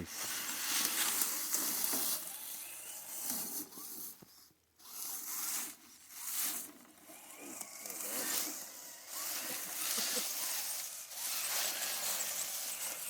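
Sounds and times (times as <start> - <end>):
rc truck motors whirring: 0.0 - 13.0.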